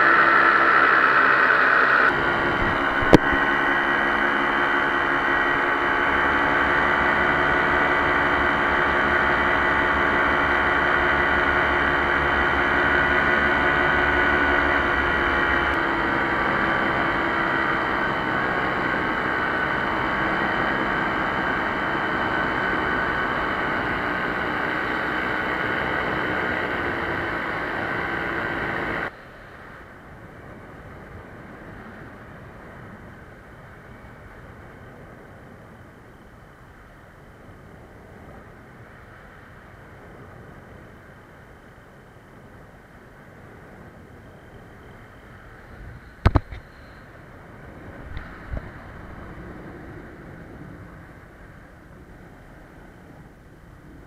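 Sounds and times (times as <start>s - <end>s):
paramotor engine and propeller drone: 0.0s - 54.0s.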